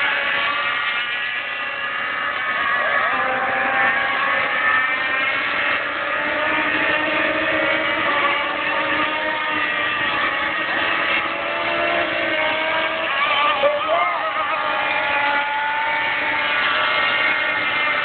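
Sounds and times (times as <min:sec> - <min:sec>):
model boat motors racing: 0:00.0 - 0:18.0.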